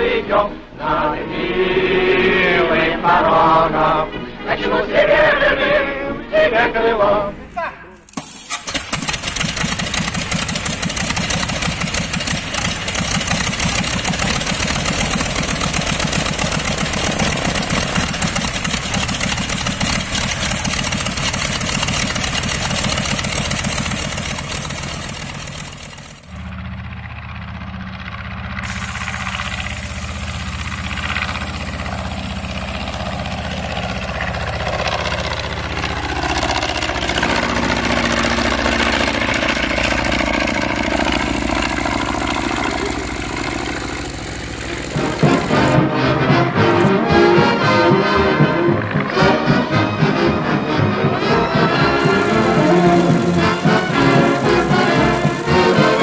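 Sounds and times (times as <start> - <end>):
biplane flying past overhead: 0.0 - 56.0
propeller plane engine running: 7.9 - 56.0.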